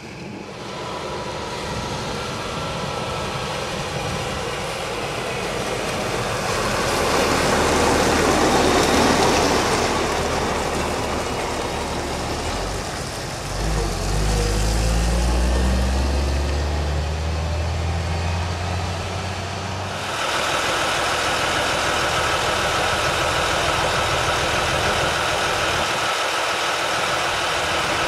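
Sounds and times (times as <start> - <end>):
diesel truck engine drone: 0.0 - 28.0
truck idling with hiss and whine: 0.0 - 28.0.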